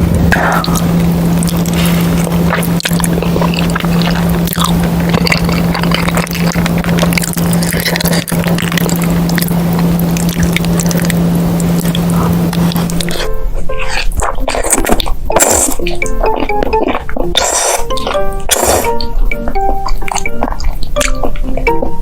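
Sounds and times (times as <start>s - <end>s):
steady low hum: 0.0s - 22.0s
wet chewing of sticky food: 0.6s - 22.0s.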